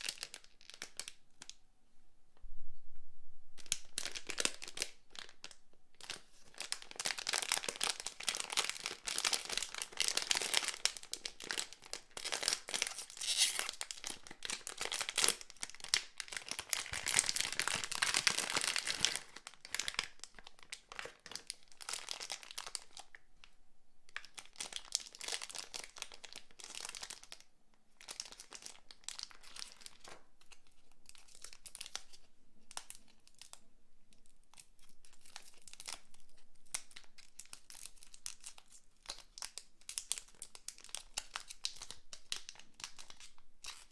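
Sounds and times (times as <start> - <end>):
packaging crinkling and tearing: 0.0 - 1.6, 3.6 - 23.2, 24.2 - 27.4, 28.0 - 33.6, 34.2 - 43.9.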